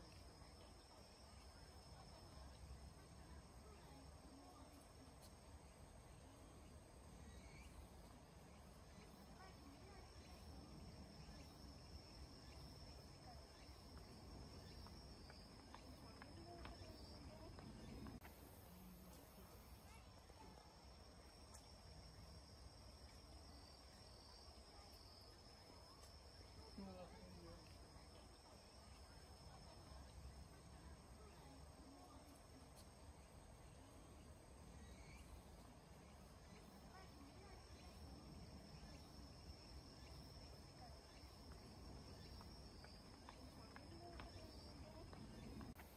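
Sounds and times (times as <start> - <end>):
crickets trilling: 5.8 - 45.9.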